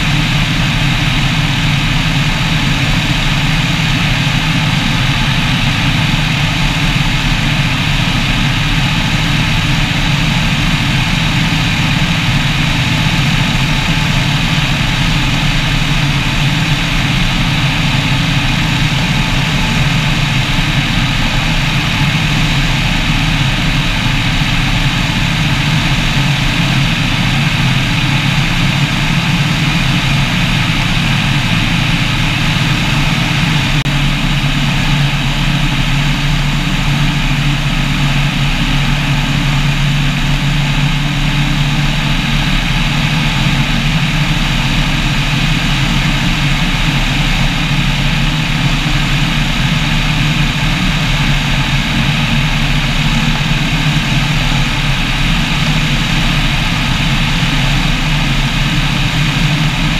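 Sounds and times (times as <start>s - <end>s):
propeller engine droning: 0.0s - 59.9s.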